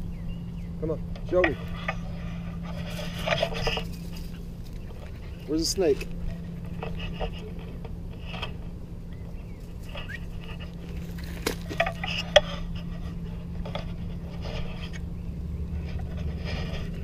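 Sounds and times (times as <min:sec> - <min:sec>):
steady low hum: 0:00.0 - 0:17.0
dog rooting in dry leaves: 0:01.6 - 0:07.6, 0:09.4 - 0:17.0.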